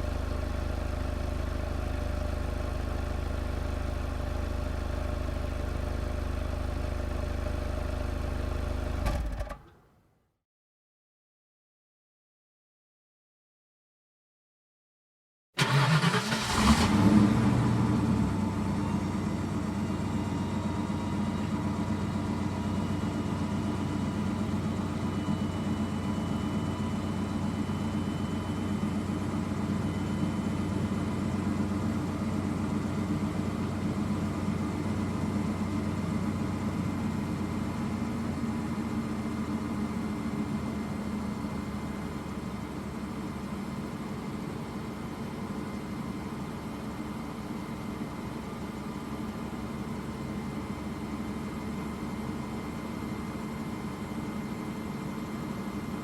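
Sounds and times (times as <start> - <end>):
car engine starting and idling: 0.0 - 9.8, 15.6 - 56.0.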